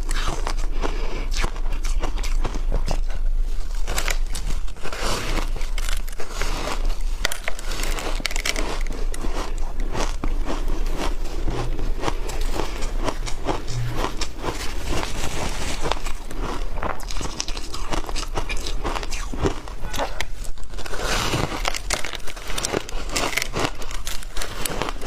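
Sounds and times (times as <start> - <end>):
shaved ice crunching: 3.7 - 19.8, 20.4 - 25.0.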